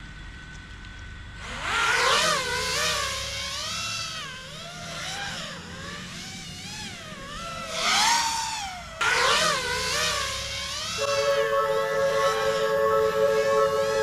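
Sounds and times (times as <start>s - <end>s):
drone motors whining: 0.5s - 14.0s.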